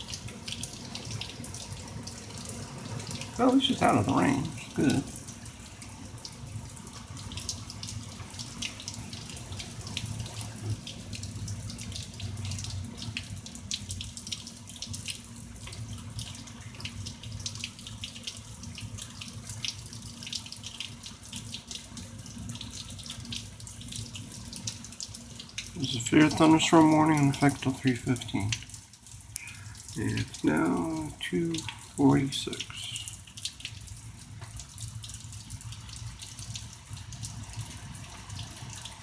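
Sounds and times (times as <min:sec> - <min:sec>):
heavy rain splashing: 0:00.0 - 0:20.0, 0:21.8 - 0:39.0.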